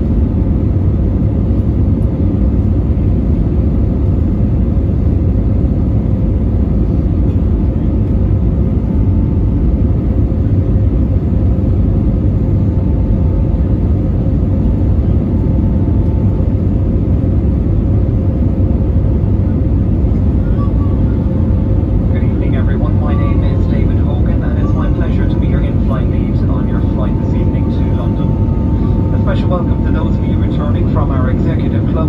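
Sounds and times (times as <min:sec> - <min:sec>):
airplane cabin rumble in flight: 0:00.0 - 0:32.0
faint steady hum: 0:00.0 - 0:32.0.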